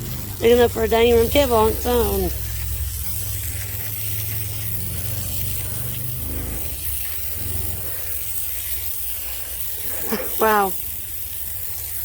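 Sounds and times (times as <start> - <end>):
band sawmill running: 0.0 - 12.0.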